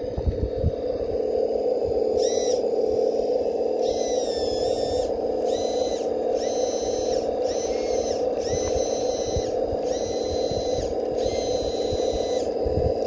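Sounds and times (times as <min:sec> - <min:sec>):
electric motor whine: 0:00.0 - 0:13.0
steady drone: 0:00.0 - 0:13.0.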